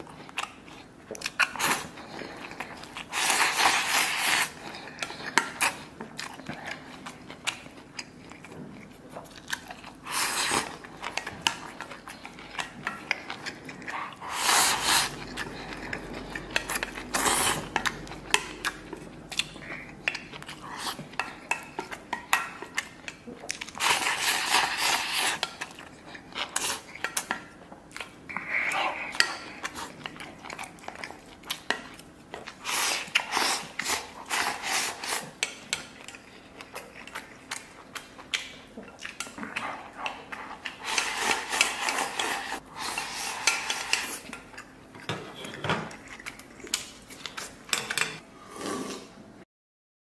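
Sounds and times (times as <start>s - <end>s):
chewing: 0.0s - 48.2s.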